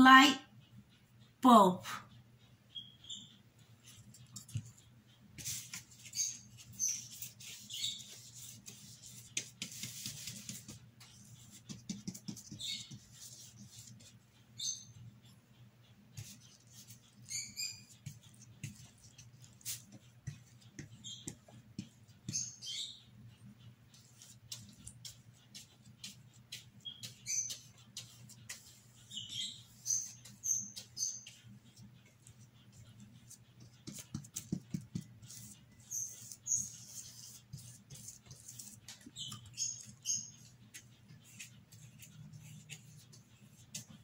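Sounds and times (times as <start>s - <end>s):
small birds chirping: 2.1s - 44.0s
paintbrush scratching on cardboard: 3.6s - 44.0s.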